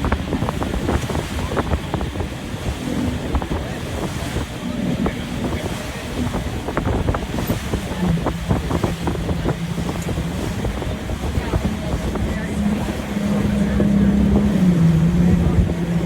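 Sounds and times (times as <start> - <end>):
low steady rumble: 0.0 - 16.0
water slapping boat hull: 0.0 - 16.0
wind buffeting microphone: 0.0 - 16.0.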